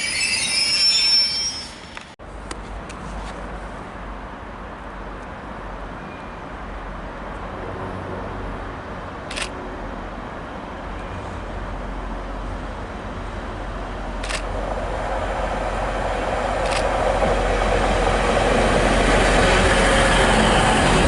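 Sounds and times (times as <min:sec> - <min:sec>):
passenger train rumble: 0:00.0 - 0:21.0.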